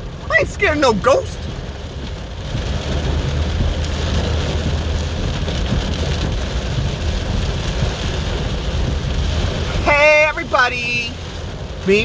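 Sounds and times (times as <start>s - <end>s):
car driving rumble: 0.0s - 12.0s
rain pattering on a car: 0.0s - 12.0s.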